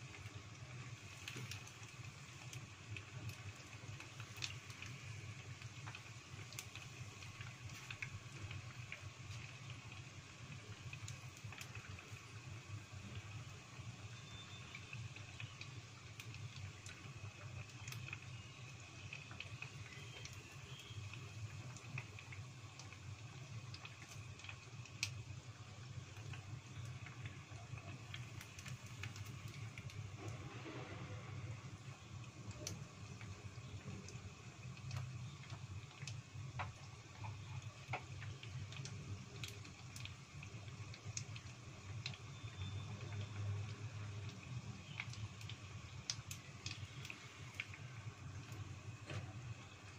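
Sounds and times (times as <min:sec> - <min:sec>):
deep-frying sizzle: 0:00.0 - 0:49.9
hot oil crackling and popping: 0:00.0 - 0:49.9
low steady hum: 0:00.0 - 0:49.9.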